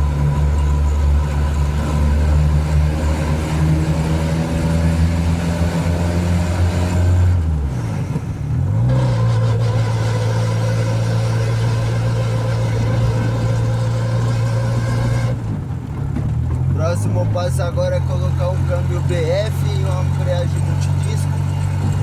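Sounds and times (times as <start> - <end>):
car engine running from inside: 0.0 - 22.0.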